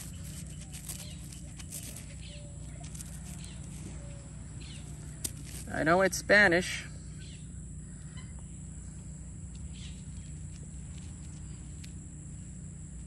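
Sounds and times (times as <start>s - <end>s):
faint distant bird calls: 0.0s - 6.1s, 6.7s - 12.9s
steady low rumble: 0.0s - 13.0s.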